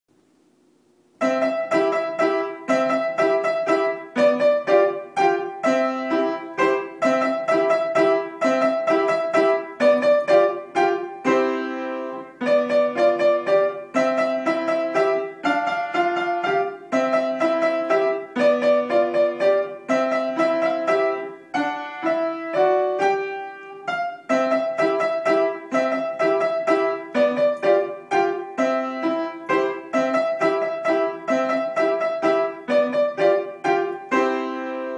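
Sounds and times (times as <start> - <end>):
upright piano piece: 1.1 - 34.9.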